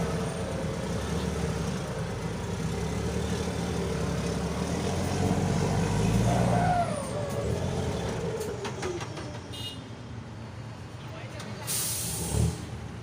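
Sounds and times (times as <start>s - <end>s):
diesel truck engine: 0.0s - 13.0s.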